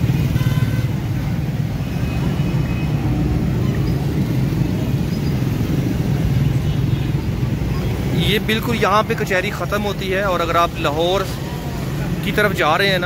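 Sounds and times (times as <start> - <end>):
low rumble of vehicle engines: 0.0 - 13.0.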